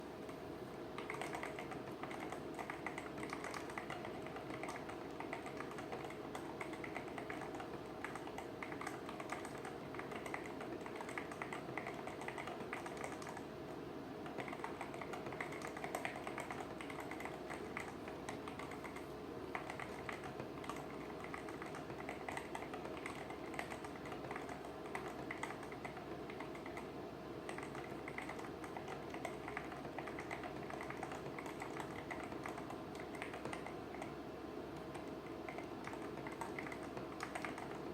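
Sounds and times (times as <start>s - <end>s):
rapid mechanical keyboard typing: 1.0s - 13.5s, 14.2s - 37.9s.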